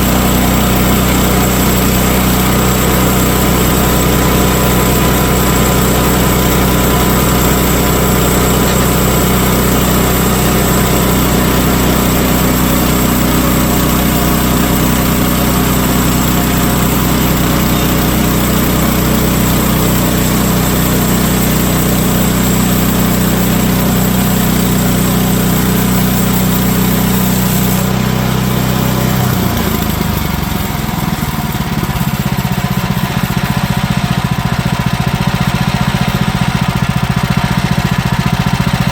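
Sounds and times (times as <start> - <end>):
band sawmill cutting log: 0.0 - 38.9.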